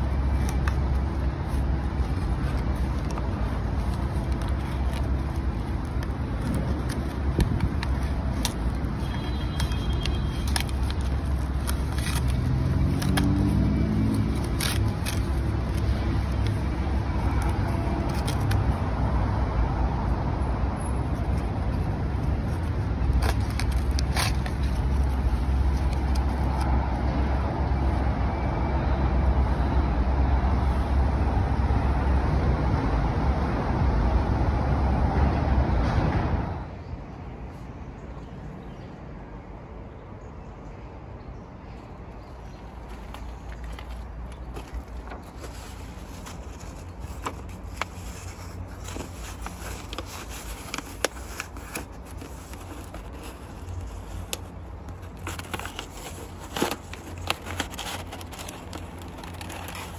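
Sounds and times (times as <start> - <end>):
low rumble of vehicle noise: 0.0 - 59.9.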